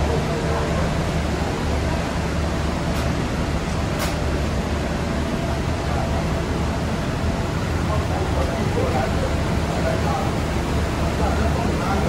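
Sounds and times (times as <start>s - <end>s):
parked train humming: 0.0s - 12.0s.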